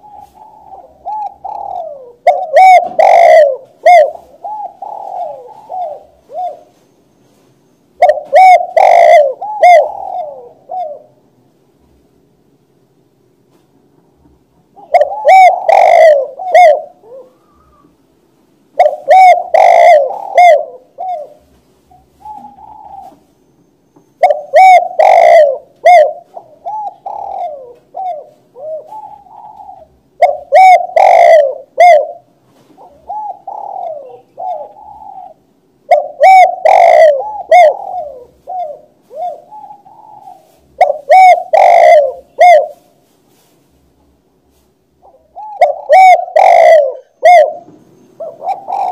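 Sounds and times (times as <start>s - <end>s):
dove cooing: 0.0s - 11.2s, 14.7s - 18.0s, 18.7s - 43.5s, 44.5s - 48.9s.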